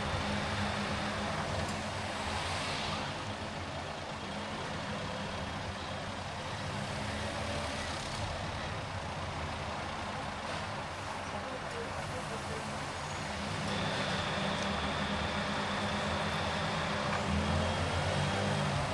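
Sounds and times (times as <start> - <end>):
car engine and road noise: 0.0 - 18.9.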